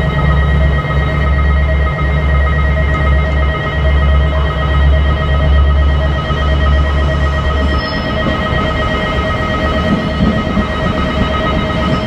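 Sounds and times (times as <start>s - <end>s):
diesel railcar rumbling past: 0.0s - 12.0s
level-crossing bell ringing: 0.0s - 12.0s.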